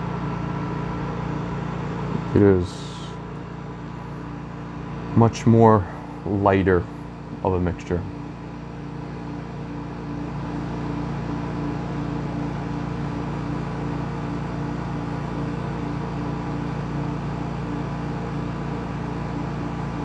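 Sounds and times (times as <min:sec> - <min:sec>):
machine hum with pulsing tone: 0:00.0 - 0:20.0.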